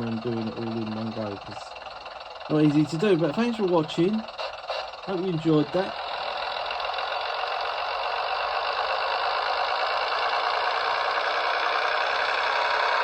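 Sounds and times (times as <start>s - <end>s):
model train diesel sound from speaker: 0.0s - 13.0s.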